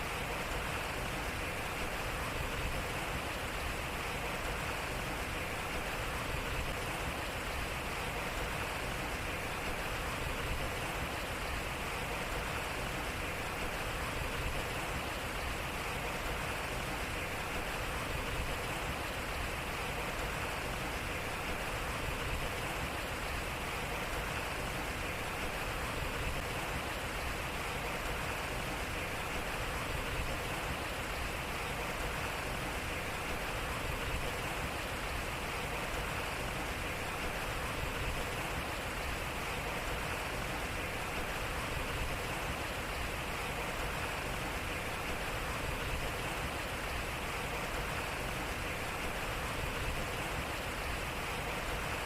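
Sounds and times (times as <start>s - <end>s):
water rushing through water wheel: 0.0s - 52.0s.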